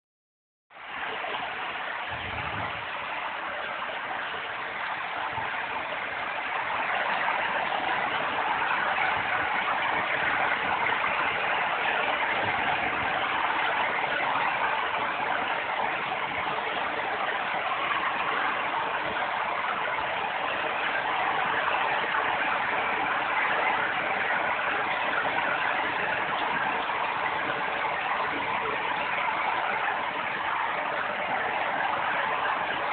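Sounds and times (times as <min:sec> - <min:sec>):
steady rainfall: 0:00.7 - 0:32.9.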